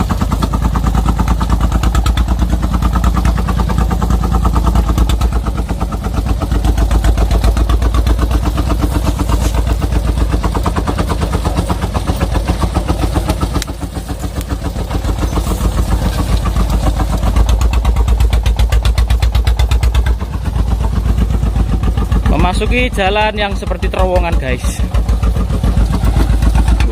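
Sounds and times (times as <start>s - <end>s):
diesel engine chugging: 0.0s - 26.9s.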